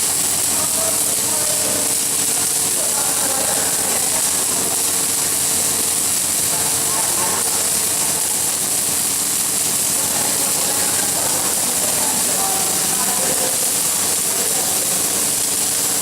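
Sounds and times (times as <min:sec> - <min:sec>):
welding arc hissing: 0:00.0 - 0:16.0.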